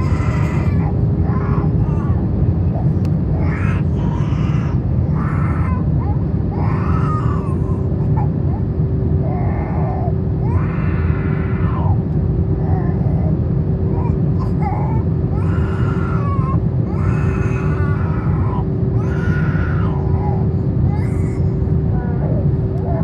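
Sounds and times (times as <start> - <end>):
baby crying: 0.0 - 8.4, 9.3 - 12.0, 14.0 - 23.0
aircraft cabin rumble: 0.0 - 23.0
constant hum: 0.0 - 23.0.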